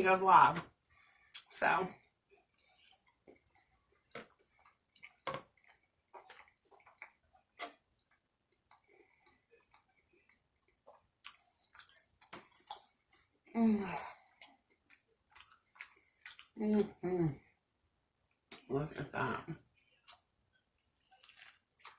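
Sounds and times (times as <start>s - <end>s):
person chewing food: 0.6s - 17.0s, 19.6s - 21.9s.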